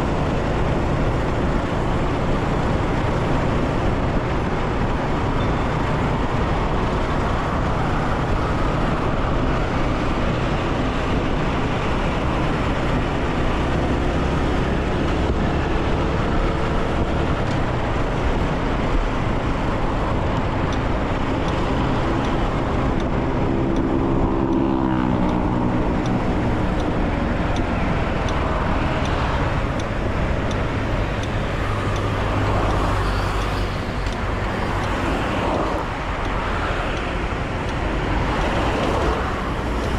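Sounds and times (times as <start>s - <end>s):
road noise: 0.0s - 39.9s
wind noise: 0.0s - 39.9s.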